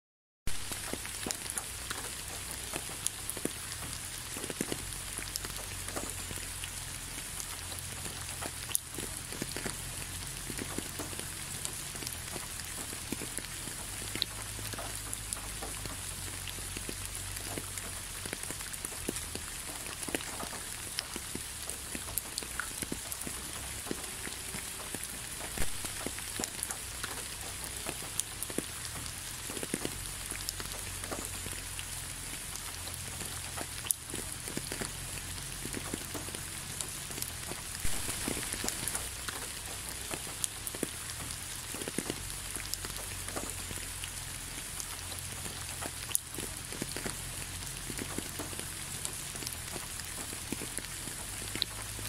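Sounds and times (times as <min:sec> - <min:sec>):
drips pattering on wet surface: 0:00.5 - 0:52.0
steady rain hiss: 0:00.5 - 0:52.0.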